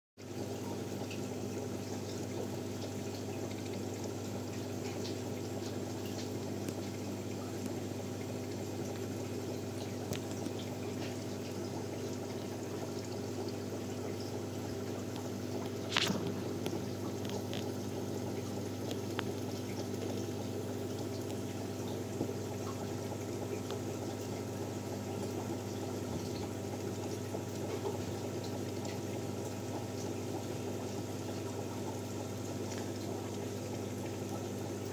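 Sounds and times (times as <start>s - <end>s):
aquarium pump humming: 0.2s - 34.9s
water bubbling and trickling: 0.2s - 34.9s.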